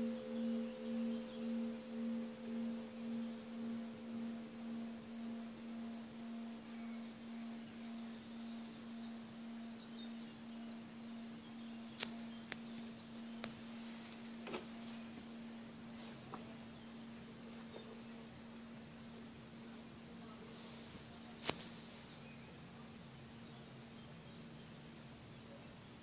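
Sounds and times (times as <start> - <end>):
church bell humming: 0.0 - 21.3.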